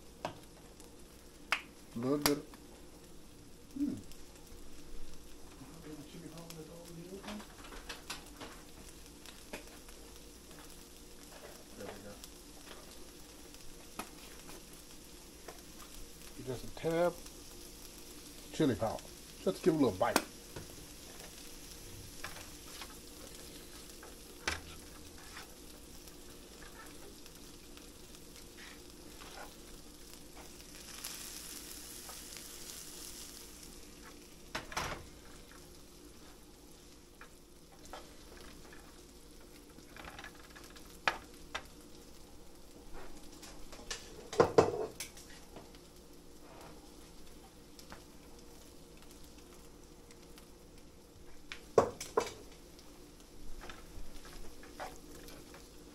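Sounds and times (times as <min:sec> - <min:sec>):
food sizzling in a frying pan: 0:00.0 - 0:55.9.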